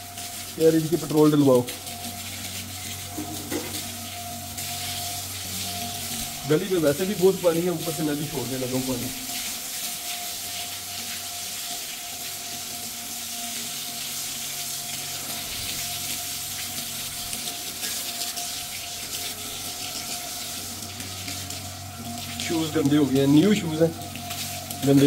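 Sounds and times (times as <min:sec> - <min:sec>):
water running from a hose: 0:00.0 - 0:25.0.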